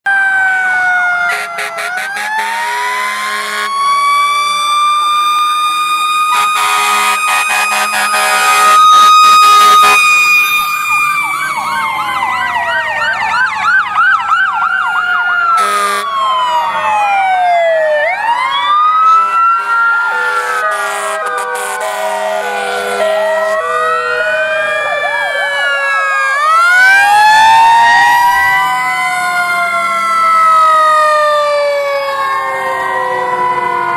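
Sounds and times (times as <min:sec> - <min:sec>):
two-tone hi-lo siren: 0:00.0 - 0:33.9
wailing siren: 0:00.0 - 0:33.9
fast warbling siren yelp: 0:00.1 - 0:33.9.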